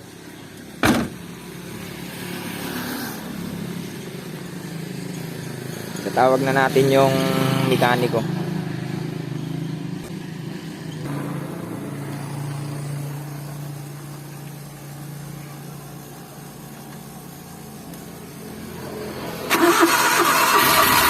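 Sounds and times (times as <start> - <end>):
vehicle engine running: 3.5 - 21.0.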